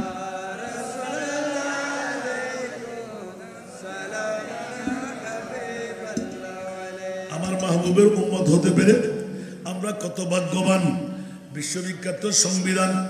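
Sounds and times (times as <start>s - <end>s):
man chanting a devotional song: 0.0s - 13.0s.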